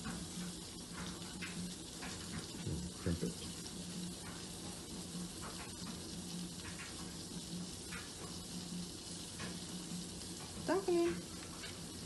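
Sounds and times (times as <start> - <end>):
pancakes sizzling in oil: 0.0 - 12.0.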